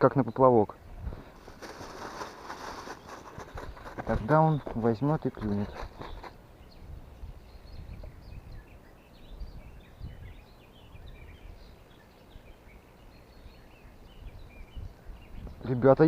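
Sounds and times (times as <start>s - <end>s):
faint songbirds chirping: 0.0s - 16.0s.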